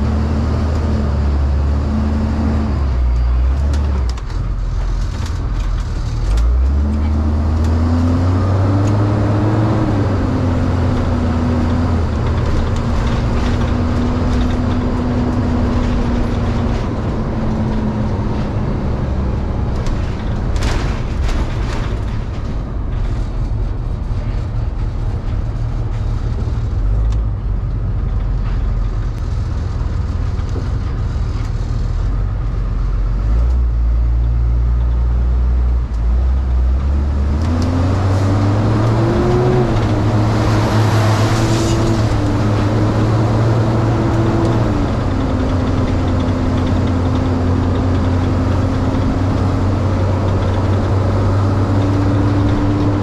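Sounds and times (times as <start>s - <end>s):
road noise: 0.0s - 53.0s
van engine: 0.0s - 53.0s.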